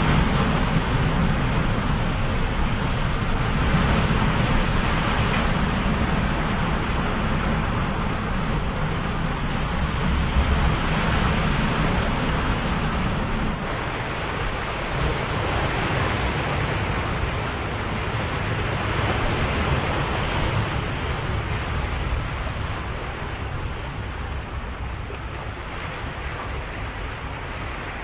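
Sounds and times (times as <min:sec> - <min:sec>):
ocean waves rushing: 0:00.0 - 0:28.0.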